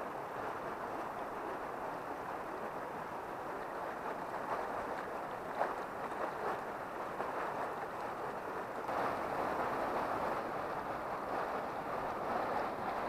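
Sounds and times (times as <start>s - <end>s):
river rushing over stones: 0.1s - 13.0s.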